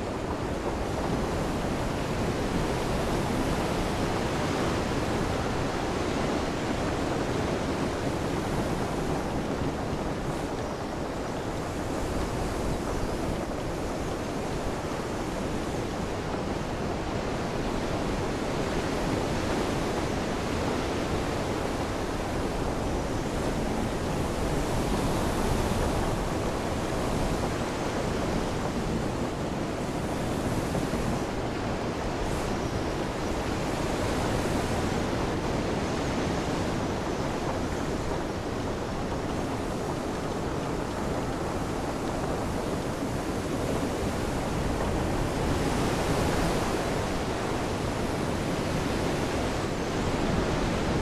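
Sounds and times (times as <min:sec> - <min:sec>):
ocean waves: 0:00.0 - 0:51.0
wind: 0:00.0 - 0:51.0.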